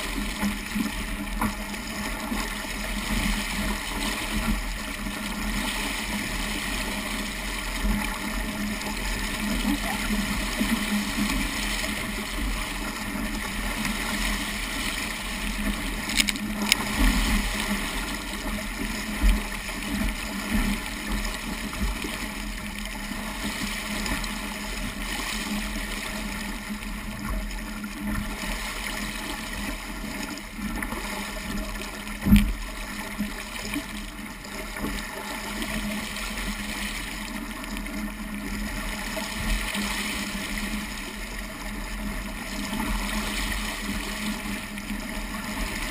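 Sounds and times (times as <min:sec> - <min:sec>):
water splashing along boat hull: 0:00.0 - 0:45.9.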